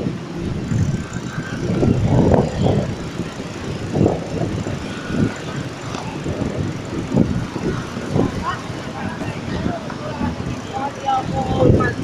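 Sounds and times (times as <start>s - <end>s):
street noise: 0.0s - 12.0s
wind buffeting microphone: 0.0s - 12.0s.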